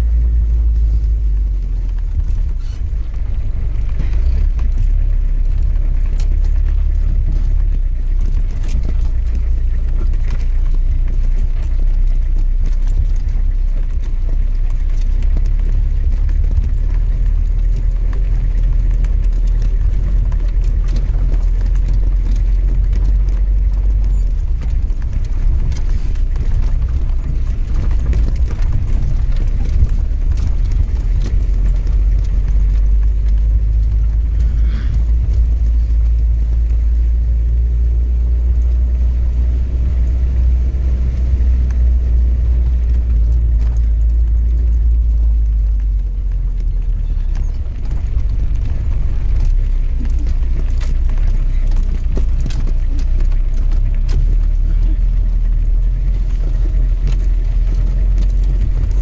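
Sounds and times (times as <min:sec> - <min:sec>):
car body knocking and rattling: 0:00.0 - 0:59.0
car engine running: 0:00.0 - 0:59.0.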